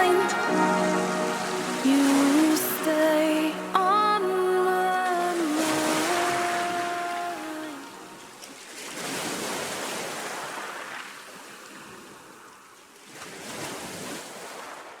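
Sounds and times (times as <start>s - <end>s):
sea surf washing in: 0.0s - 12.4s.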